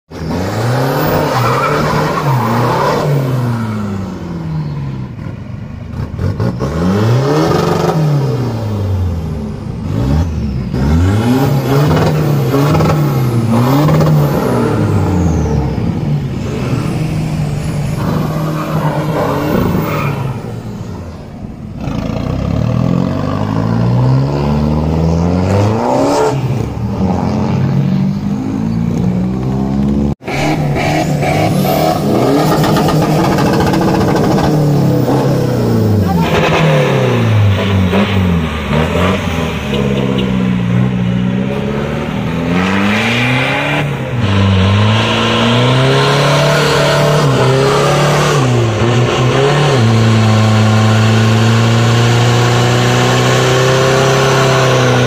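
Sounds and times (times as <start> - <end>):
diesel truck engines revving: 0.1 - 55.0.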